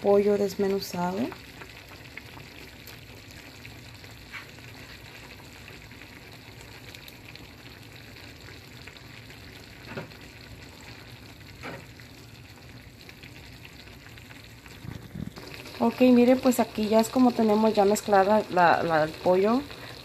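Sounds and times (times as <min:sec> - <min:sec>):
salsa sizzling in a frying pan: 0:00.0 - 0:20.0.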